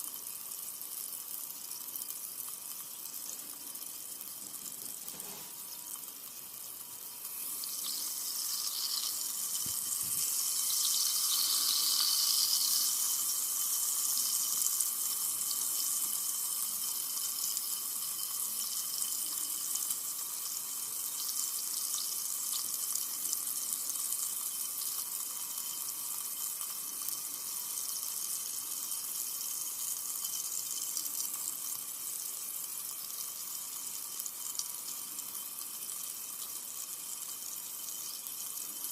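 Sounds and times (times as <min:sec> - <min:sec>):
soda fizzing: 0:00.0 - 0:38.9.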